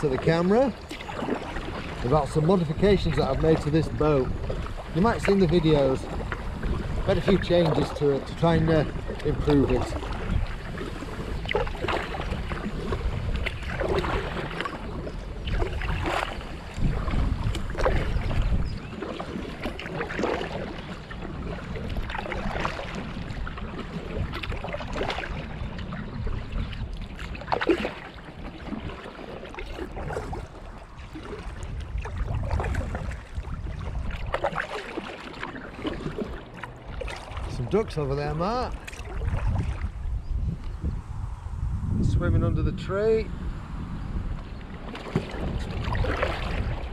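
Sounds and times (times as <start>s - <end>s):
kayak paddle splashing: 0.0s - 41.0s, 44.0s - 46.9s
wind rumbling on microphone: 0.0s - 46.9s.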